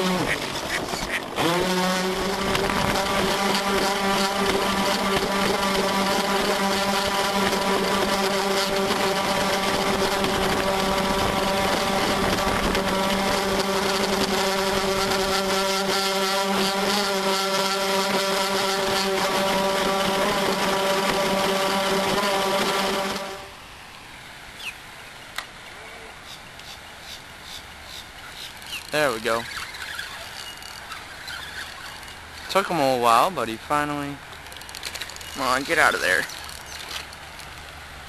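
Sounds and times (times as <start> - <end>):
model boat motor running: 0.0 - 23.5, 28.6 - 37.2.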